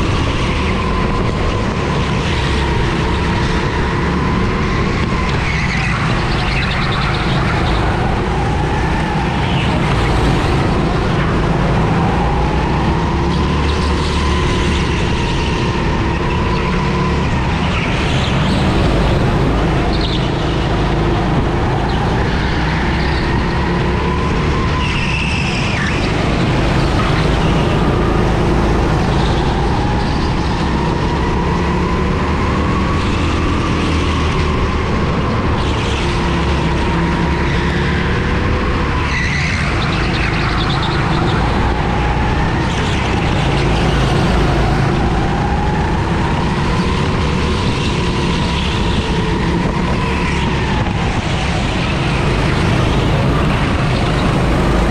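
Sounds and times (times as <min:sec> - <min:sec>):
go-kart engine revving: 0:00.0 - 0:54.9.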